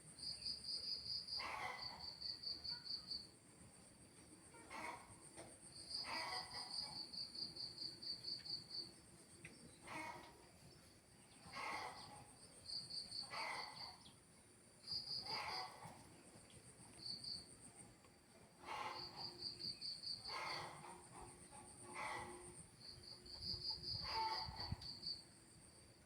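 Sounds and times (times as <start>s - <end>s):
crickets chirping: 0.1s - 3.4s, 5.7s - 9.7s, 11.6s - 26.0s.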